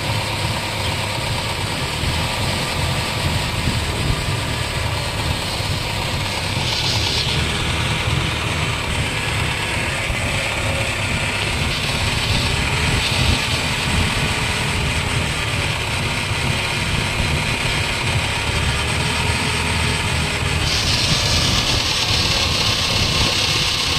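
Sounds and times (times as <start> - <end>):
road noise hiss: 0.0 - 23.9
wheel bearing rumble: 0.0 - 23.9.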